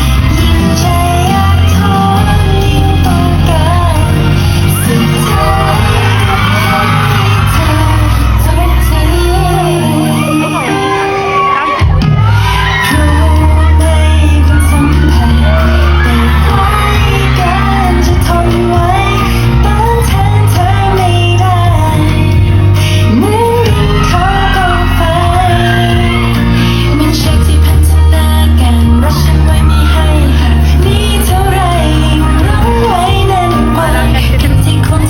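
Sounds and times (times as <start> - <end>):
people shouting and whooping: 0.0 - 35.0
pop song over loudspeakers: 0.0 - 35.0.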